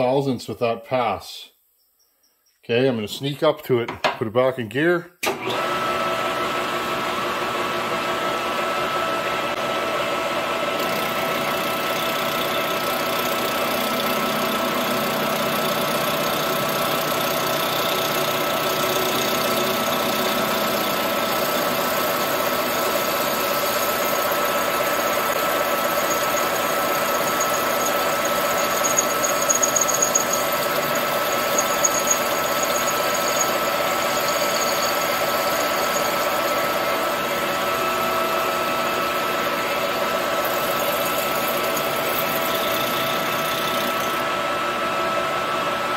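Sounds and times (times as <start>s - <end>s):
lathe gearing whine: 5.3s - 45.9s.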